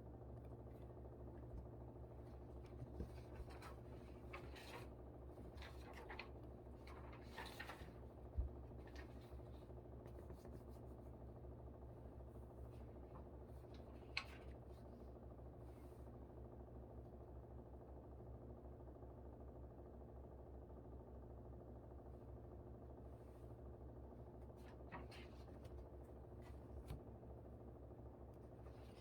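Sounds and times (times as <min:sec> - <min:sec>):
air conditioner hum: 0:00.0 - 0:29.0.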